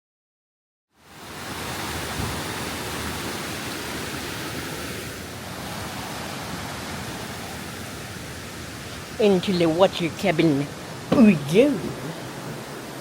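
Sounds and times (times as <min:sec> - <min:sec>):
stream water rushing: 0:01.0 - 0:13.0.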